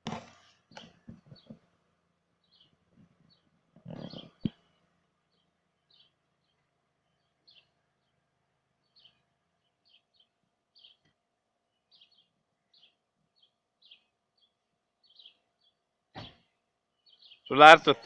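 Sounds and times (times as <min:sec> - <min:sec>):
bird chirping: 0:00.7 - 0:01.6, 0:02.4 - 0:04.6, 0:05.3 - 0:08.2, 0:08.8 - 0:18.0.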